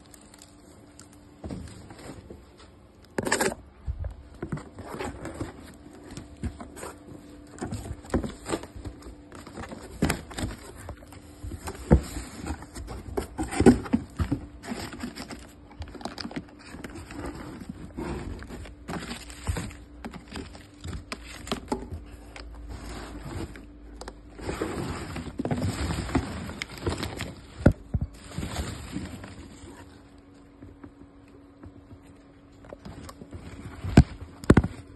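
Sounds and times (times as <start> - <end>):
cardboard and plastic rustling: 0.0 - 34.9.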